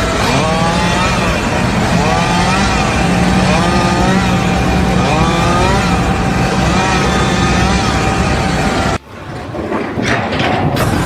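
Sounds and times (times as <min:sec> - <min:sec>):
motor running loudly: 0:00.0 - 0:09.0
steady low hum: 0:00.0 - 0:11.0.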